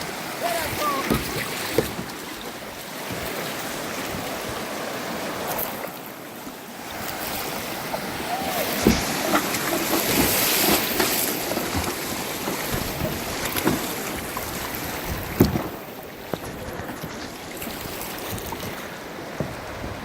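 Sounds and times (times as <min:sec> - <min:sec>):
rushing whitewater: 0:00.0 - 0:20.0.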